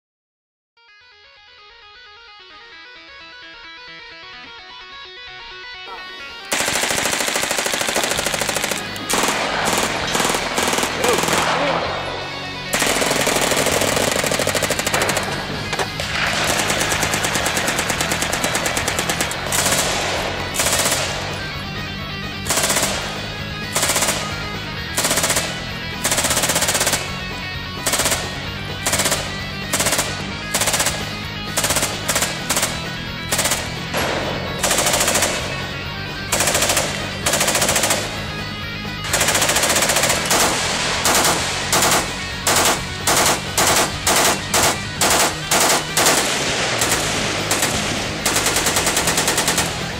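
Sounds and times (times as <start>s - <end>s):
background music: 0.8s - 49.9s
automatic gunfire: 6.4s - 49.9s.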